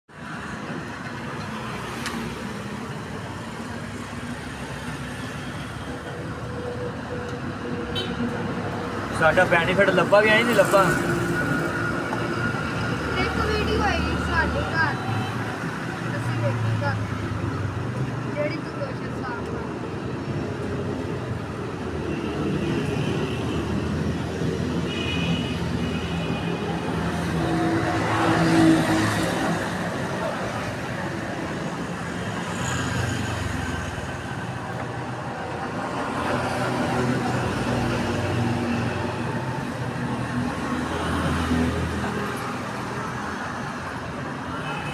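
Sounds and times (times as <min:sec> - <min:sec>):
street noise: 0:00.1 - 0:44.9.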